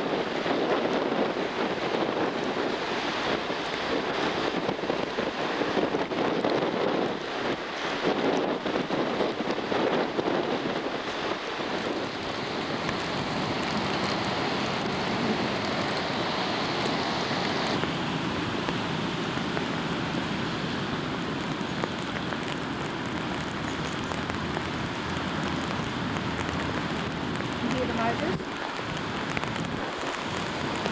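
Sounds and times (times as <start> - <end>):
rough surf: 0.0 - 30.9
wind: 0.0 - 30.9.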